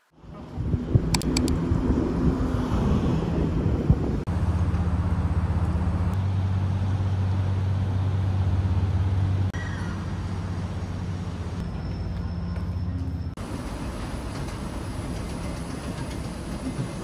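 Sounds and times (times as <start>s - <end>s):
motor vehicle rumbling: 0.2s - 17.0s.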